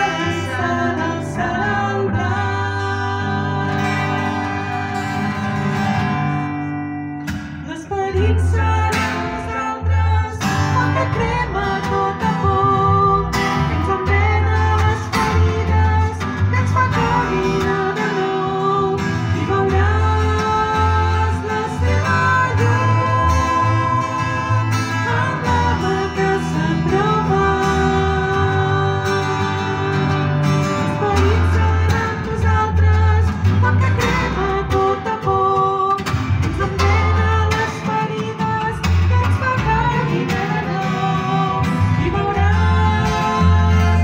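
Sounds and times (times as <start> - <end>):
woman singing: 0.0 - 5.1, 7.6 - 44.0
steady low bass line: 0.0 - 35.4, 38.6 - 44.0
guitar: 0.0 - 44.0.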